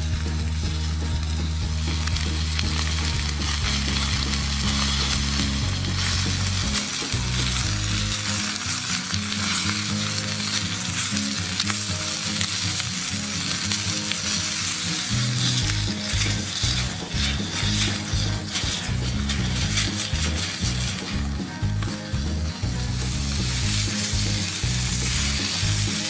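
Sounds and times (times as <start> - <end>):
steak sizzling in a pan: 0.0 - 26.0.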